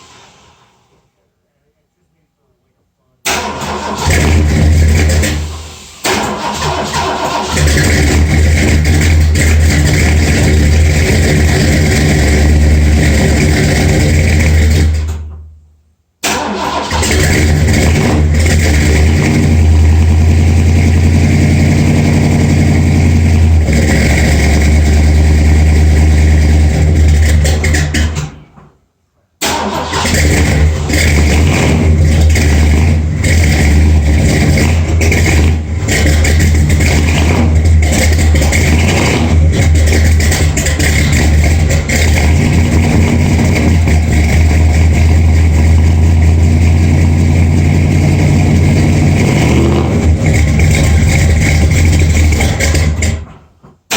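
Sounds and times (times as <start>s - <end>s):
loud engine running: 3.4s - 5.6s, 6.5s - 15.1s, 17.0s - 28.0s, 30.0s - 53.3s.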